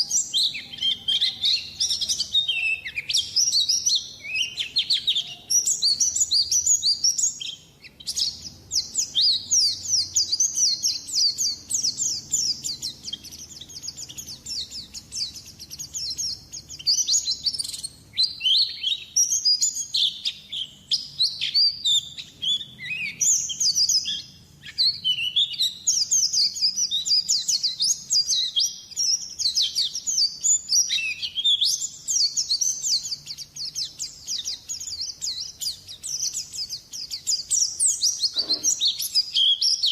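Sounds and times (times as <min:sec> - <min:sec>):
bird twittering rapidly: 0:00.0 - 0:39.9.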